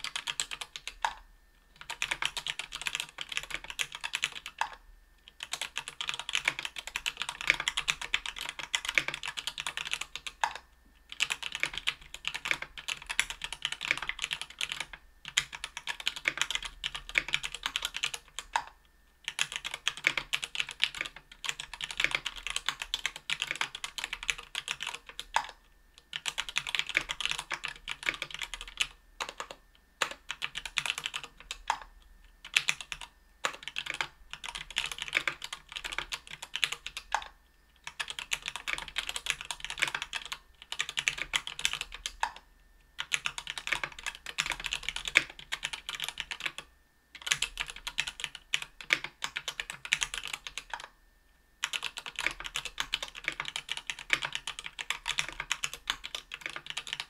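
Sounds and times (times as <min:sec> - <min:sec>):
keyboard typing: 0:00.0 - 0:01.2, 0:01.8 - 0:42.4, 0:43.0 - 0:51.0, 0:51.6 - 0:57.0.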